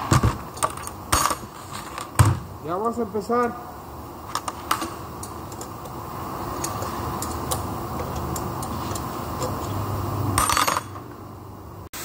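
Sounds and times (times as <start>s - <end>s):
workshop hum: 0.0s - 12.0s.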